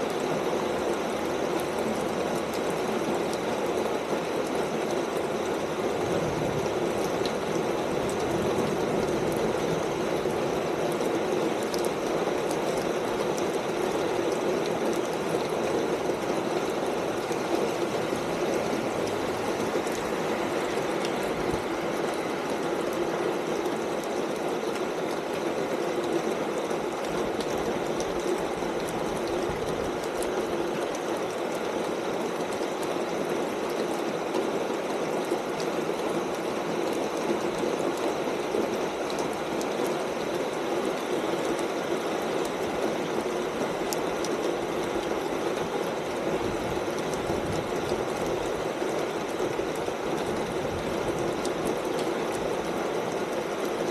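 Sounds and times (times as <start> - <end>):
rain on a tin roof: 0.0 - 53.9.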